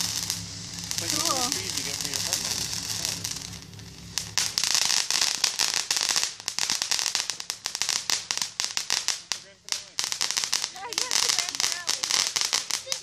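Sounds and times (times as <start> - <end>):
firework fountain crackling: 0.0 - 13.0.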